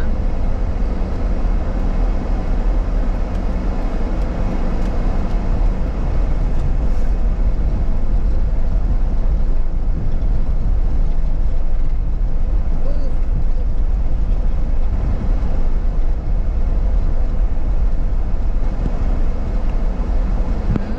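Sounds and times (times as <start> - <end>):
car road and engine rumble: 0.0 - 20.9.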